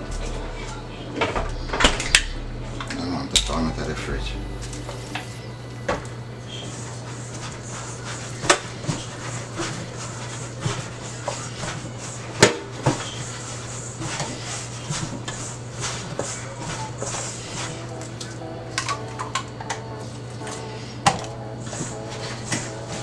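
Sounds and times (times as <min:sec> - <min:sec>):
low hum: 0:00.0 - 0:14.4, 0:16.6 - 0:23.0.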